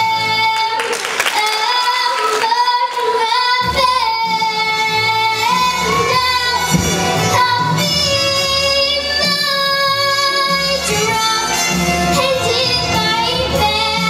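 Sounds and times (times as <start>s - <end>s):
girl singing: 0.0s - 14.0s
instrumental accompaniment: 2.5s - 14.0s.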